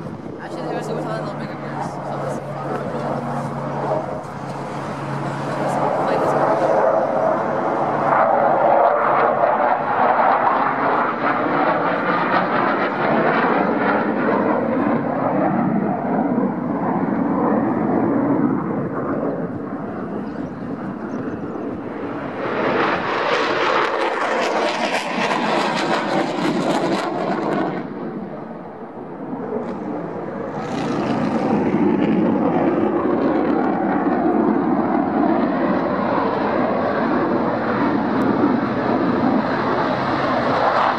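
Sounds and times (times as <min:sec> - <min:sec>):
jet engines roaring overhead: 0:00.0 - 0:40.9.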